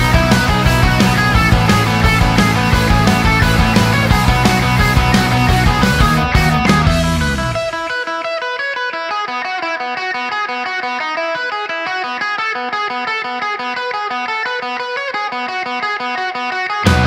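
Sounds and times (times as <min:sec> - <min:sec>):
guitar playing quick notes: 0:00.0 - 0:17.0.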